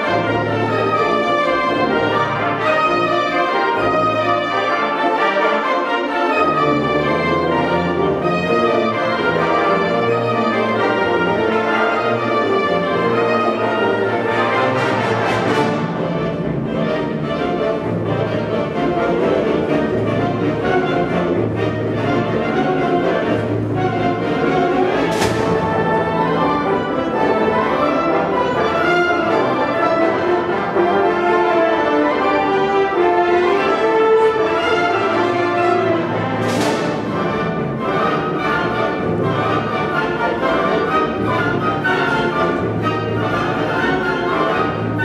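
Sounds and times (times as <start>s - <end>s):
wind band playing: 0.0s - 45.0s.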